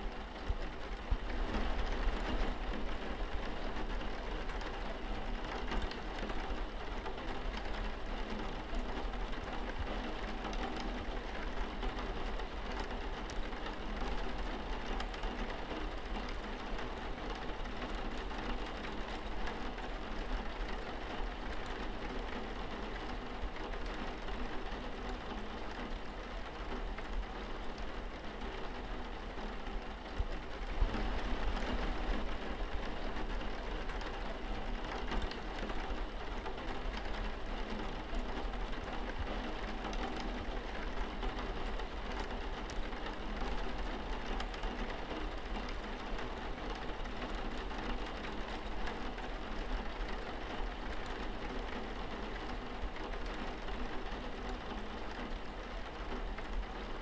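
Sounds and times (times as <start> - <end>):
rain on a window pane: 0.0 - 57.0.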